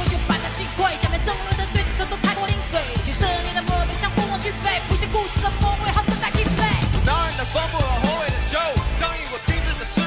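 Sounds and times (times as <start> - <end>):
person singing: 0.0 - 10.0
pop backing track with bass: 0.0 - 10.0.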